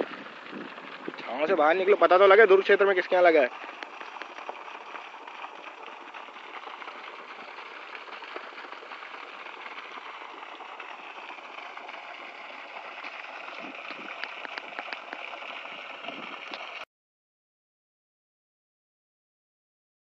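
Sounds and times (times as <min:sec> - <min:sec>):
running water rushing: 0:00.0 - 0:16.8.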